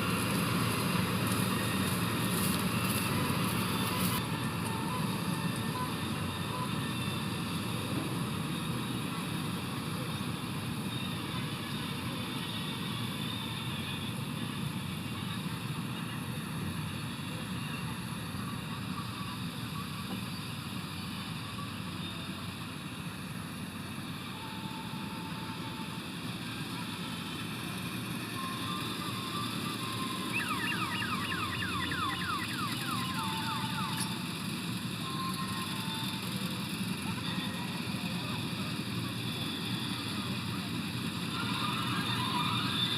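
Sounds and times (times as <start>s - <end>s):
diesel engine running under load: 0.0s - 42.9s.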